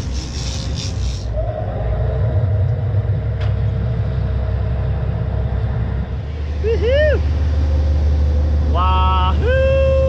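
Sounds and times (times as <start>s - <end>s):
boat engines rumbling: 0.0s - 10.0s.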